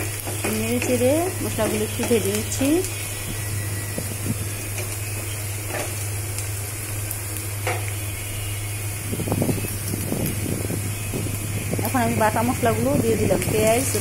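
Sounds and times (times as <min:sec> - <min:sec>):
onions sizzling in oil: 0:00.0 - 0:14.0
steady low hum: 0:00.0 - 0:14.0.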